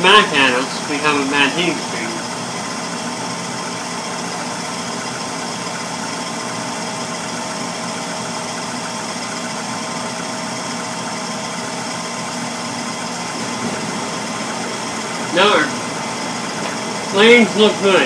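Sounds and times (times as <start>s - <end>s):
gas furnace humming: 0.0s - 18.0s.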